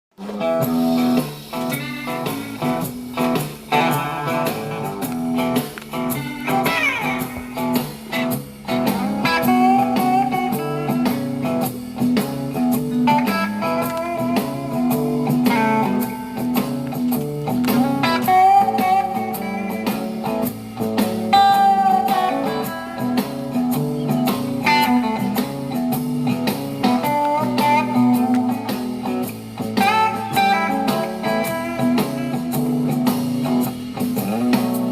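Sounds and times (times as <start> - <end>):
blues guitar music with bass: 0.2 - 34.9.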